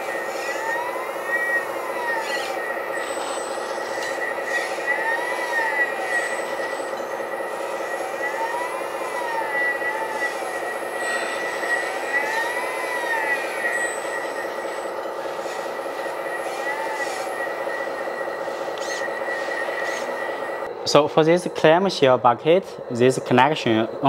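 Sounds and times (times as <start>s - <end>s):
hydraulic pump whining: 0.0s - 24.0s.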